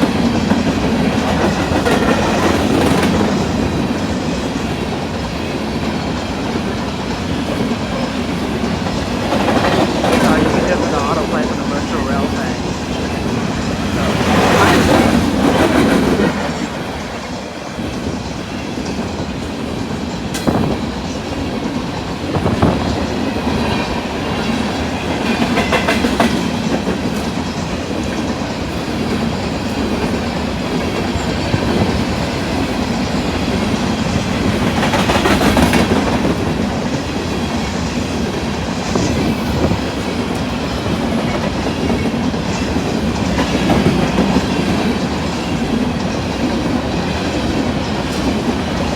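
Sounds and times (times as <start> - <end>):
freight train cars rumbling: 0.0 - 48.9.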